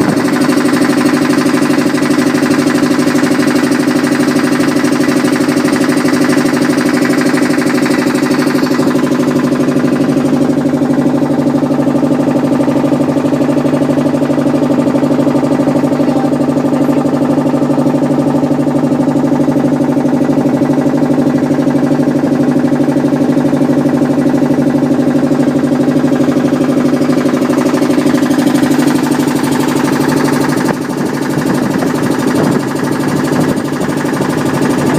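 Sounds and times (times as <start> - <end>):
motorboat engine chugging: 0.0 - 34.9.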